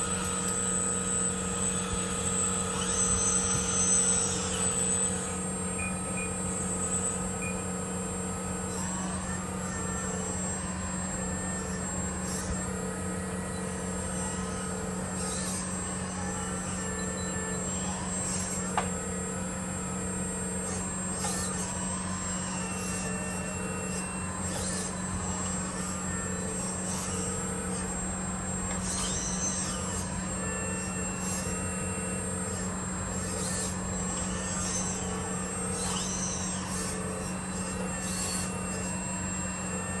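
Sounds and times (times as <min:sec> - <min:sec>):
electric hydraulic pump humming: 0:00.0 - 0:40.0
high valve whines: 0:00.0 - 0:40.0.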